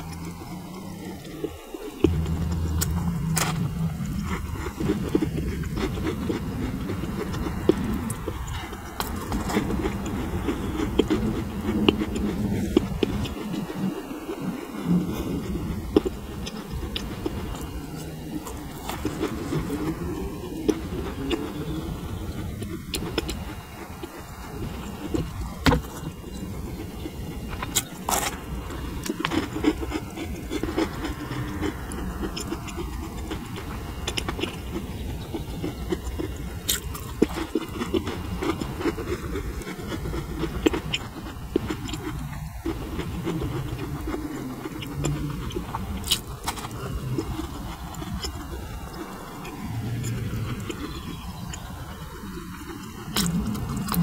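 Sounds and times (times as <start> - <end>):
crisp shells crackling: 0.0 - 54.0
person chewing macarons: 0.0 - 54.0.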